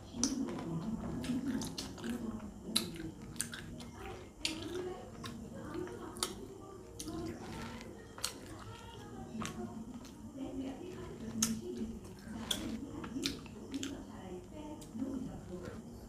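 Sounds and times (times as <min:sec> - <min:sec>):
wet chewing and lip smacks: 0:00.1 - 0:10.2, 0:10.9 - 0:14.1.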